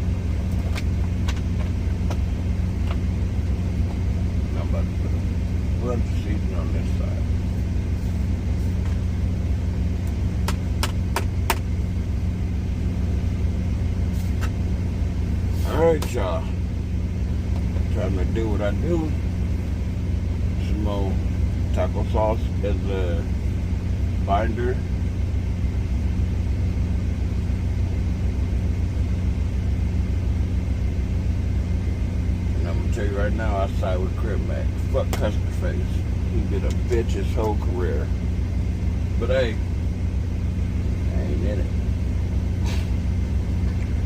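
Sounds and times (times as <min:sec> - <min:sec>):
truck engine idling: 0:00.0 - 0:44.0.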